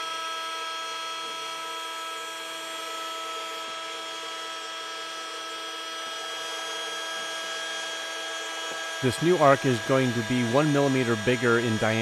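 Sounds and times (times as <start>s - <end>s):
spindle motor whining: 0.0s - 12.0s.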